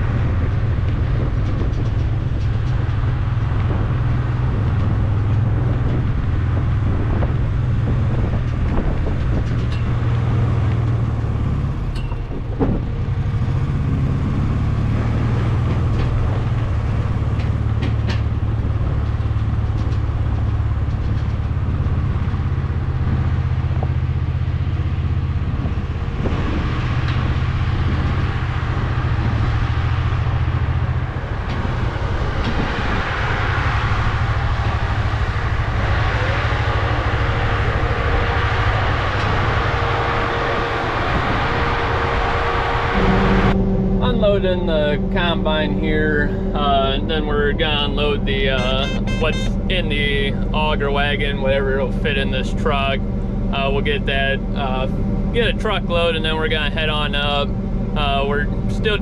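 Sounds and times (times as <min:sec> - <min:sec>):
farm vehicle engine running: 0:00.0 - 0:59.0.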